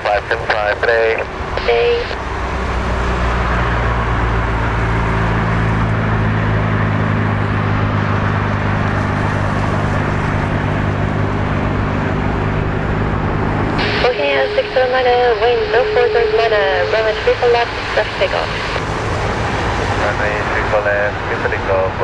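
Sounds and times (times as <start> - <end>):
jet engines humming: 0.0 - 22.0.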